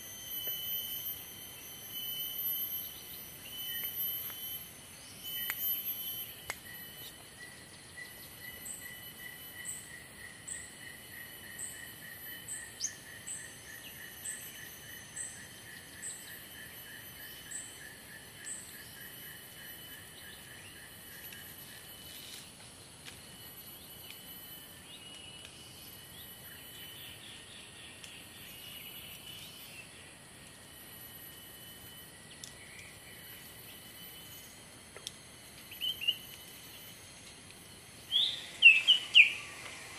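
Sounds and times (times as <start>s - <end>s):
high trilling insects: 0.0s - 39.9s
rapidly pulsing insect: 0.0s - 39.9s.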